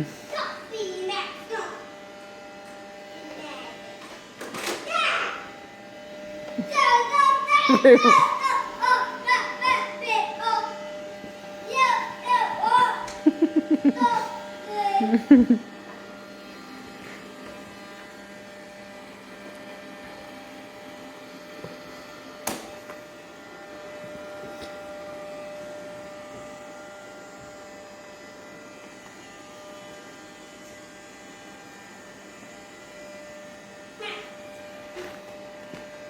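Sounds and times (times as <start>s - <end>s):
robot vacuum whirring: 0.0s - 36.0s.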